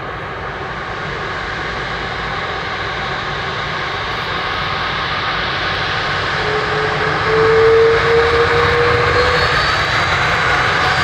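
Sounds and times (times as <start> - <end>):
faint jet whine: 0.0 - 11.0
jet engine roar: 0.0 - 11.0.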